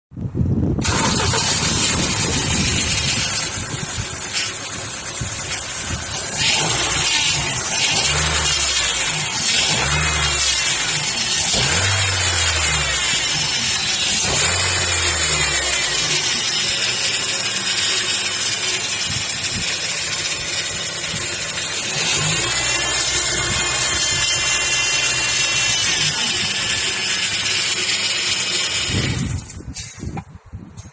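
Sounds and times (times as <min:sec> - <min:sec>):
car engine running: 0:00.8 - 0:29.7
power steering pump whine: 0:00.8 - 0:30.2.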